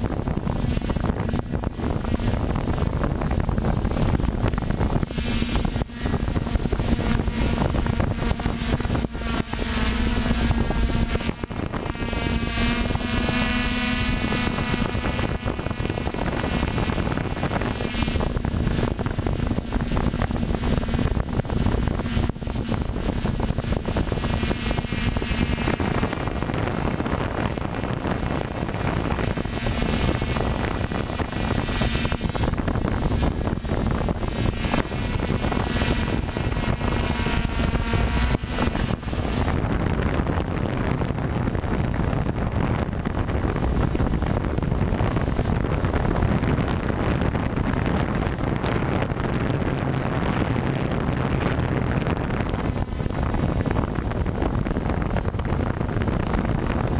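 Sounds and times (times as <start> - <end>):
drone propellers whirring: 0.0 - 56.9
wind rushing over microphone: 0.0 - 56.9.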